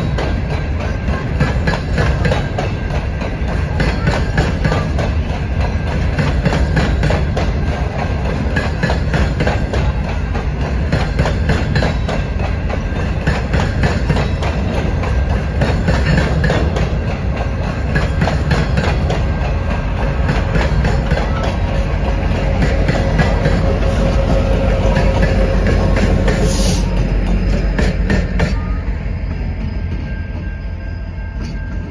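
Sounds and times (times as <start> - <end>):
wheels and couplings clacking: 0.0 - 30.6
freight train wheels rumbling on rails: 0.0 - 31.9.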